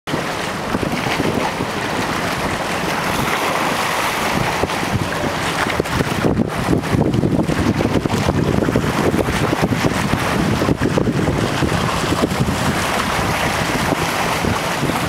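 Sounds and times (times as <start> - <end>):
choppy water rushing: 0.1 - 15.0
wind buffeting microphone: 0.1 - 15.0.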